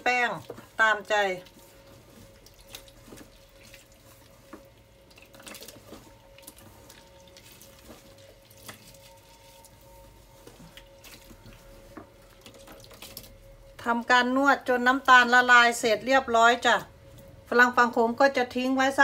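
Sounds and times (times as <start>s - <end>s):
wet squelching of kneaded dough: 0.0s - 19.0s.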